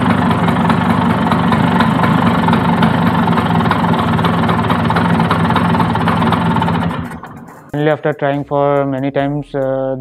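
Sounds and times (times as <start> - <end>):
scooter engine idling: 0.0 - 8.2.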